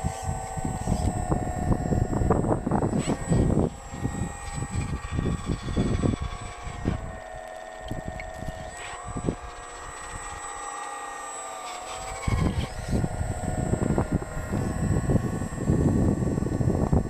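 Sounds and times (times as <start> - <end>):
wind buffeting microphone: 0.0 - 10.4, 12.0 - 17.0
hydraulic pump whining: 0.0 - 17.0.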